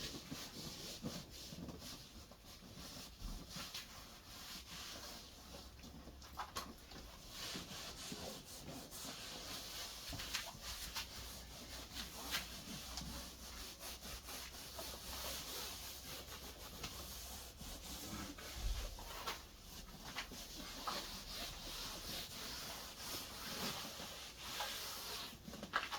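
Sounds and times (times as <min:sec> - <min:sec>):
faint rubbing and scraping: 0:00.0 - 0:25.9.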